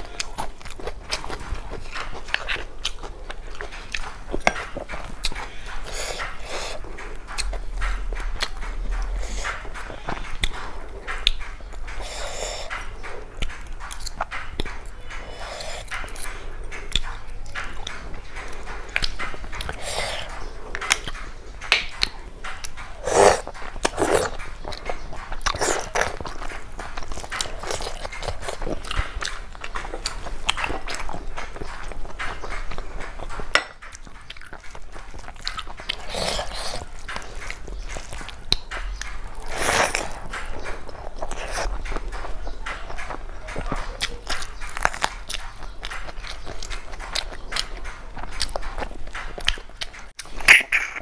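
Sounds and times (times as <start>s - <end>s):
chewing and biting food: 0.0s - 51.0s.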